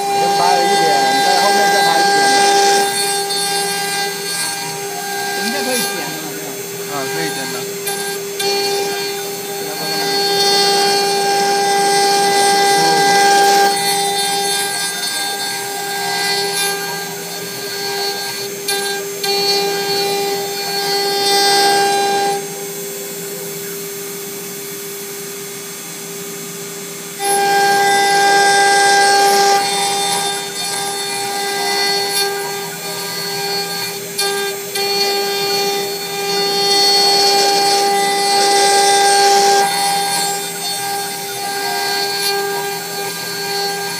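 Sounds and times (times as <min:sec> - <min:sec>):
router bit carving wood: 0:00.0 - 0:43.9
router spindle whine: 0:00.0 - 0:43.9.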